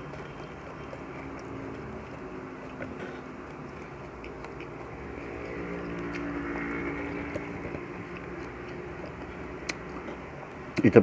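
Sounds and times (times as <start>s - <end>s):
faint eating clicks: 0.0s - 11.0s
vehicle engine passing by: 0.0s - 11.0s.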